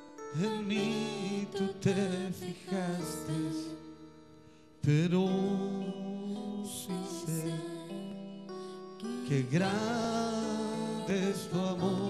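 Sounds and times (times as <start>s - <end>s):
voices singing: 0.0s - 4.2s, 4.8s - 12.0s
worship song on keyboard: 0.0s - 12.0s.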